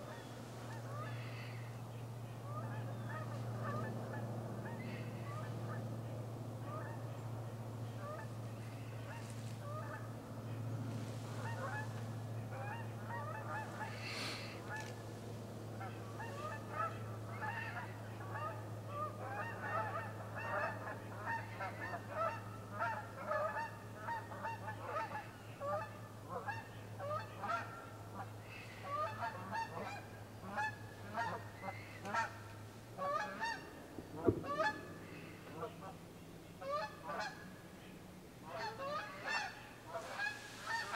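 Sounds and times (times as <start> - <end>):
geese honking: 0.0 - 40.9
steady low hum: 0.0 - 40.9.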